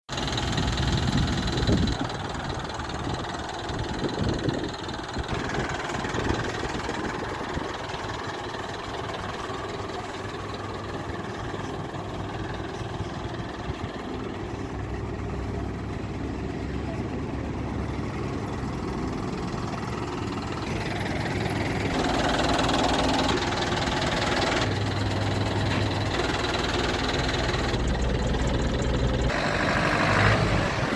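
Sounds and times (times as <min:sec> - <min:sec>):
diesel truck engine idling: 0:00.1 - 0:30.9.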